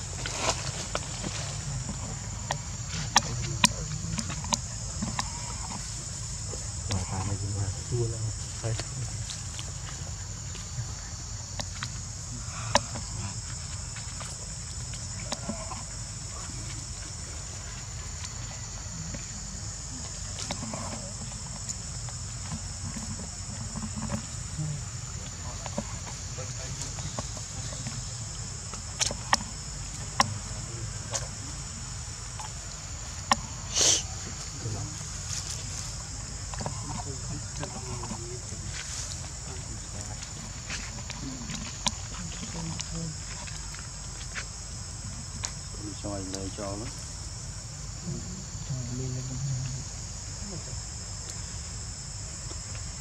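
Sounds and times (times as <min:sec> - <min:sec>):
faint ticks and rustles: 0:00.0 - 0:53.0
high-pitched insect chorus: 0:00.0 - 0:53.0.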